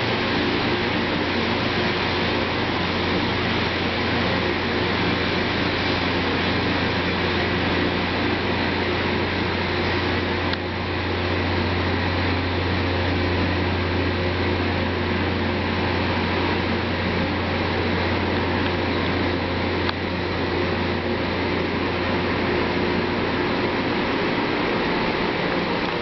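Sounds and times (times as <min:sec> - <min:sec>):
constant low drone: 0:00.0 - 0:26.0.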